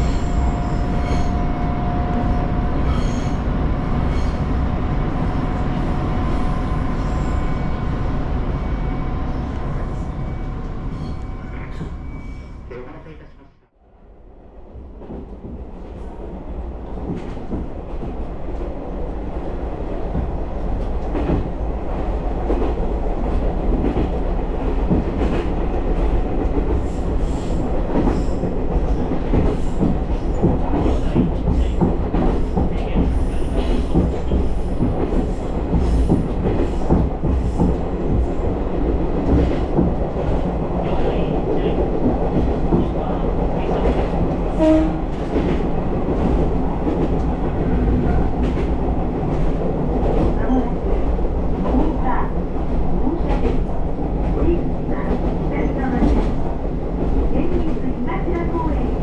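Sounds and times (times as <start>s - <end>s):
railcar low rumble: 0.0s - 59.0s.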